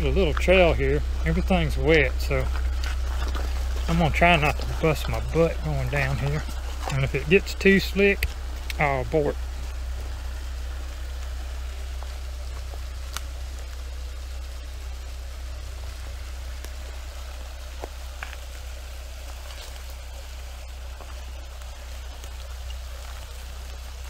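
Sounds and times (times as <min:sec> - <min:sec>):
footsteps on wet leaves and rocks: 0:00.0 - 0:24.0
low steady rumble: 0:00.0 - 0:24.0
running water hiss: 0:00.0 - 0:24.0.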